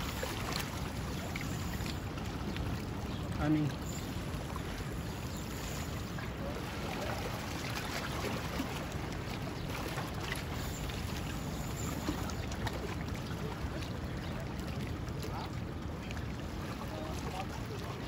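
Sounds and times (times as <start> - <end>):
water on rocky shoreline: 0.0 - 18.0.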